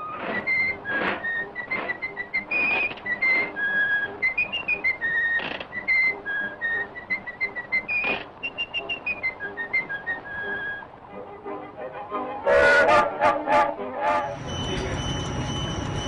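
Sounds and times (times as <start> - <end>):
whistled melody: 0.0 - 16.0.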